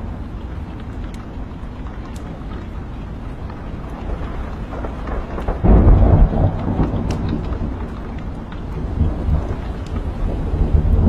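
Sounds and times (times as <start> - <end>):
log fire crackling: 0.0 - 11.0
steady rain: 0.0 - 11.0
thunder rumbling: 0.0 - 11.0.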